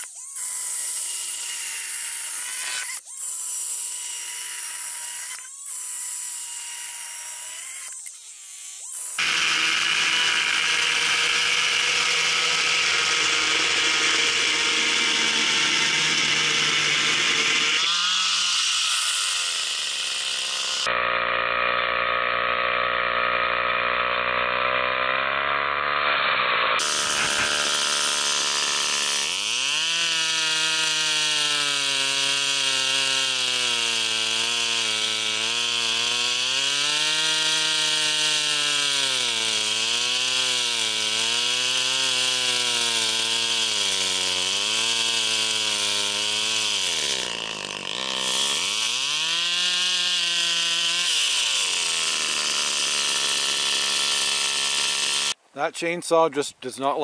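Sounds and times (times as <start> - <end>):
chainsaw cutting log: 0.0 - 56.2.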